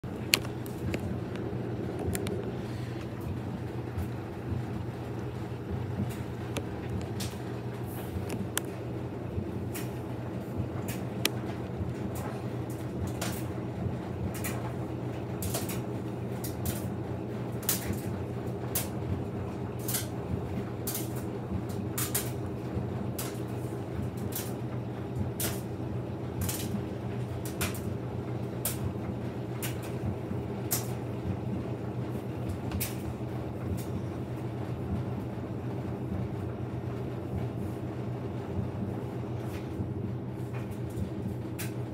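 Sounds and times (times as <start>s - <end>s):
washing machine motor hum: 0.0s - 41.9s.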